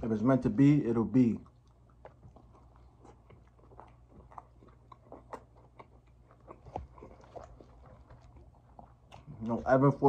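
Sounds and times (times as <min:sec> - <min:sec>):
low steady hum: 0:00.0 - 0:10.0
person chewing with wet clicks: 0:00.0 - 0:10.0.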